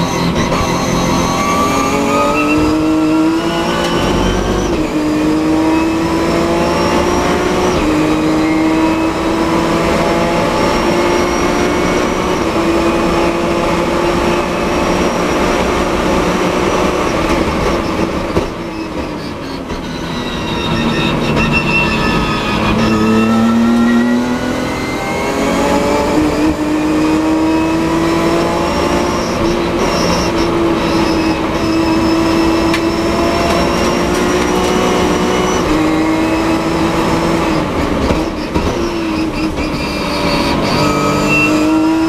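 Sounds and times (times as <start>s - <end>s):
race car engine accelerating: 0.0s - 42.0s.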